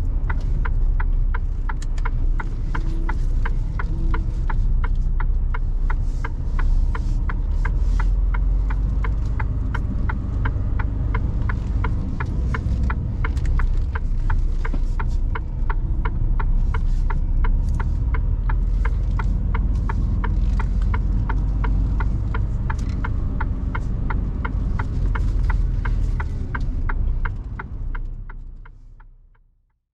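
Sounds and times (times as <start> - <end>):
indicator ticking: 0.0 - 28.7
truck engine rumbling: 0.0 - 29.3.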